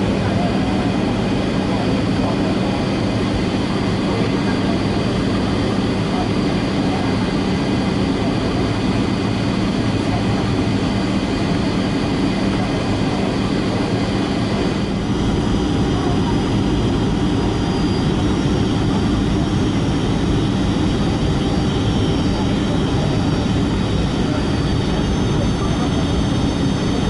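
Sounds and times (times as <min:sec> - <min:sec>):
aircraft engine drone: 0:00.0 - 0:27.0
faint high engine whine: 0:00.0 - 0:27.0.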